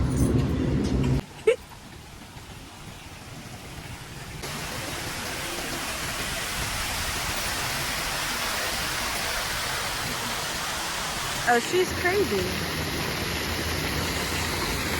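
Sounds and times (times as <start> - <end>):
rushing water: 2.0 - 14.9.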